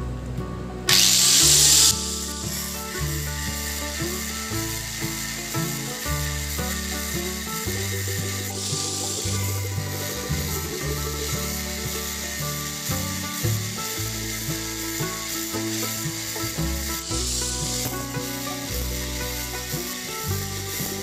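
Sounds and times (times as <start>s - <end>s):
background music: 0.0s - 21.0s
angle grinder cutting steel: 0.9s - 21.0s.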